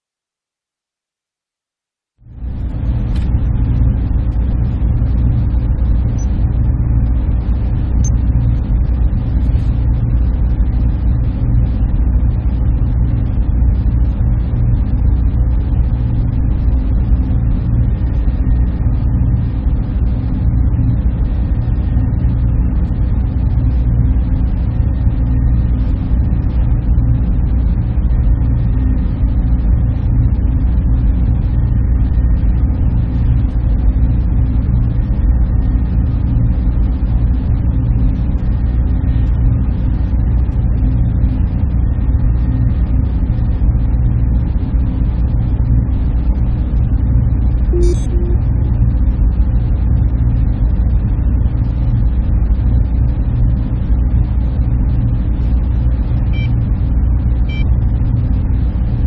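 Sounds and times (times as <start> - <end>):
faint hum tones: 2.2 - 59.0
server machinery drone: 2.2 - 59.0.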